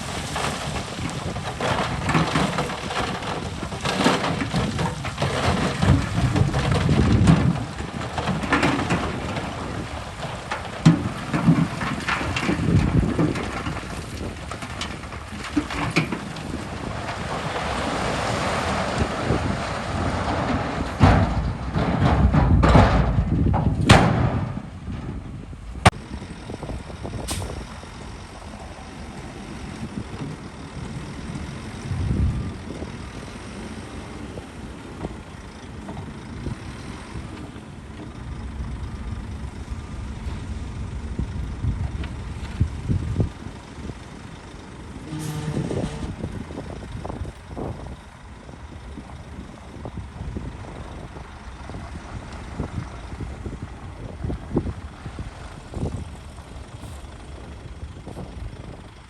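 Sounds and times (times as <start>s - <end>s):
diesel machinery engine rumble: 0.0s - 59.0s.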